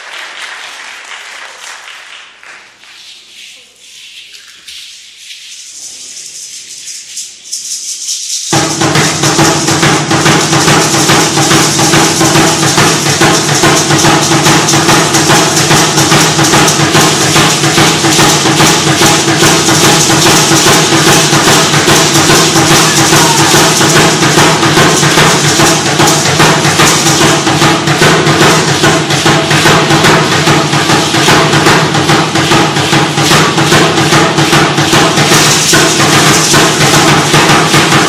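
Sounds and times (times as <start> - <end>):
rattles shaking: 3.4 - 38.0
drum beating fast: 6.2 - 38.0.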